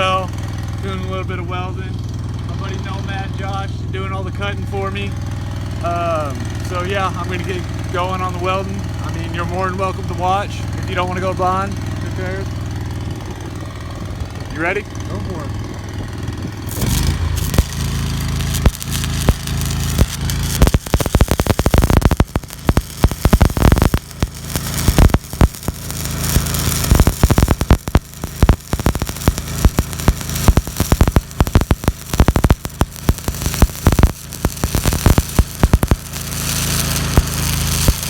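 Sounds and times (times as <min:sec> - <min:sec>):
engine hum: 0:00.0 - 0:38.0
welding arc crackling: 0:05.1 - 0:38.0.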